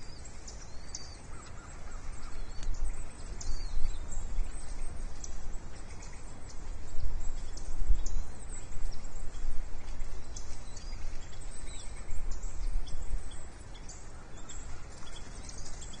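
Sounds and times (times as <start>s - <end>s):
low microphone rumble: 0.0s - 16.0s.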